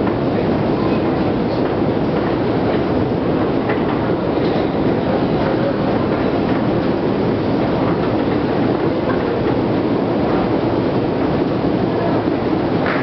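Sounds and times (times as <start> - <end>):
escalator mechanical rumble: 0.0 - 13.0.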